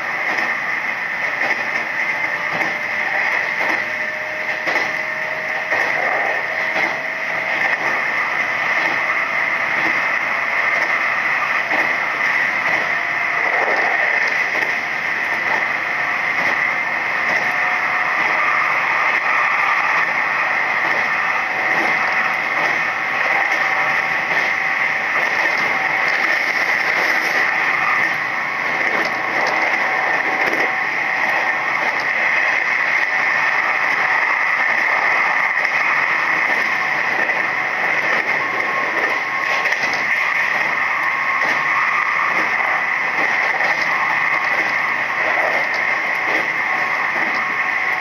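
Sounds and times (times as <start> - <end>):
electric train running noise: 0.0 - 48.0.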